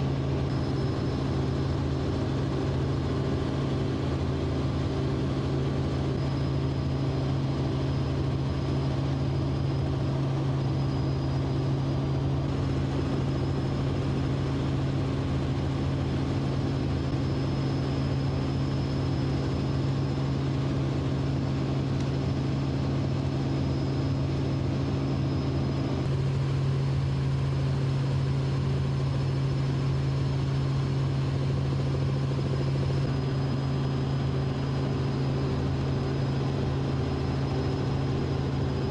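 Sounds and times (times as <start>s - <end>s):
helicopter engines and rotor drone: 0.0s - 38.9s
thin high whine: 0.0s - 38.9s.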